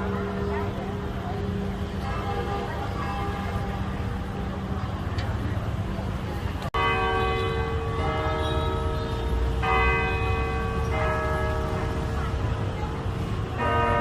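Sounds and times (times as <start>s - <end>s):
church bells tolling: 0.0s - 5.1s, 6.7s - 14.0s.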